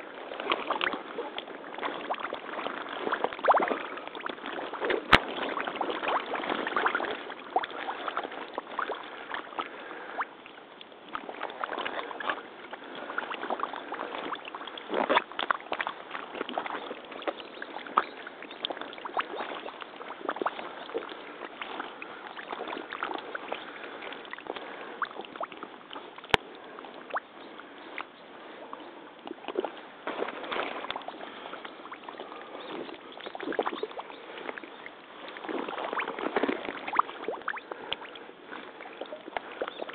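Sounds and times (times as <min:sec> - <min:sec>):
wading through water sloshing: 0:00.0 - 0:39.9.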